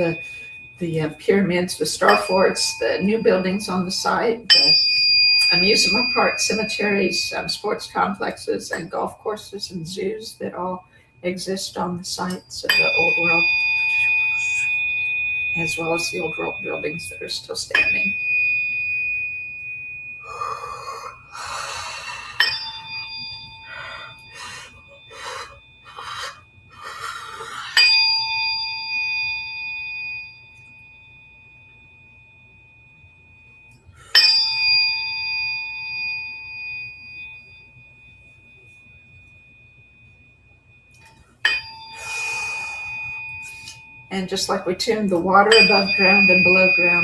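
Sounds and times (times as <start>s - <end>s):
struck metal tuning instrument ringing: 0.0s - 10.7s, 11.3s - 47.0s.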